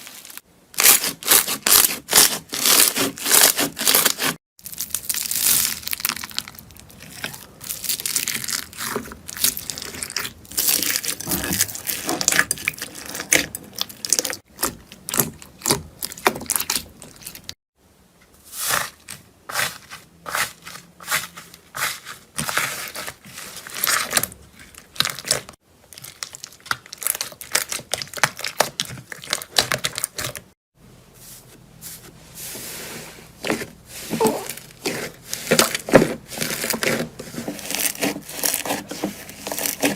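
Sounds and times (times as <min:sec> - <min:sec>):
slime crackling and crunching: 0:00.0 - 0:17.5, 0:21.8 - 0:30.4, 0:33.5 - 0:39.9.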